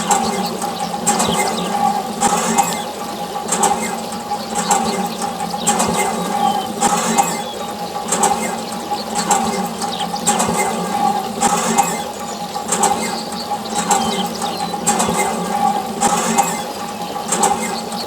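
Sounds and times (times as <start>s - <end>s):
water pump hum: 0.0s - 18.0s
water spray splashing: 0.0s - 18.0s.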